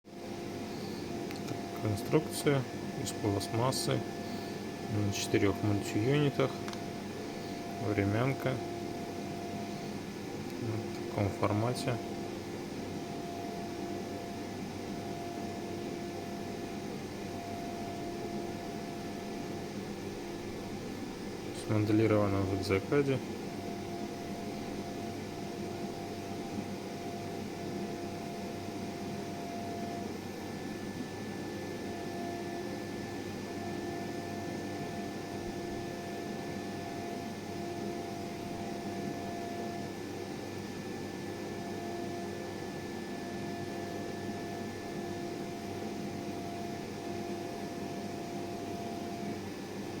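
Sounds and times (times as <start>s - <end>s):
milling machine hiss and whine: 0.1s - 50.0s.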